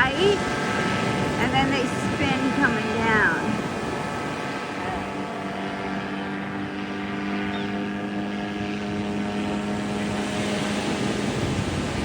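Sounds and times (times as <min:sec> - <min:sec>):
paraglider engine and propeller hum: 0:00.0 - 0:12.0.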